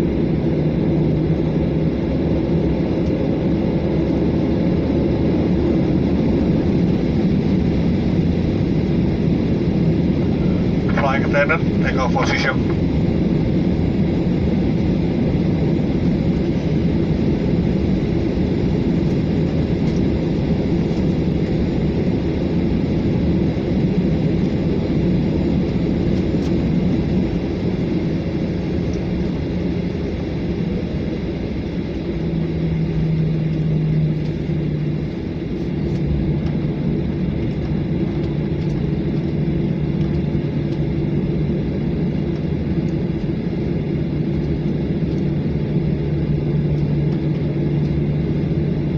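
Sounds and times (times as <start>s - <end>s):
jet engines rumbling in cabin: 0.0s - 48.9s
steady low hum: 0.0s - 48.9s.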